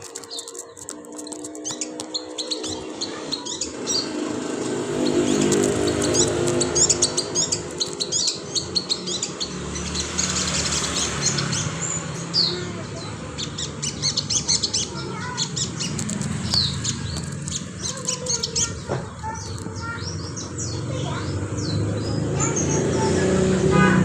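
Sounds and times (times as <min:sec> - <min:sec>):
songbird chirping and trilling: 0:00.0 - 0:23.7.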